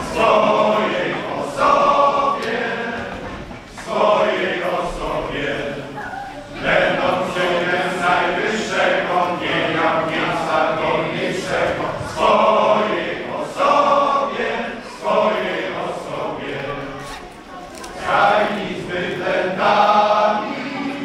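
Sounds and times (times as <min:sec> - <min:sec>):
men's choir singing a carol: 0:00.0 - 0:21.0.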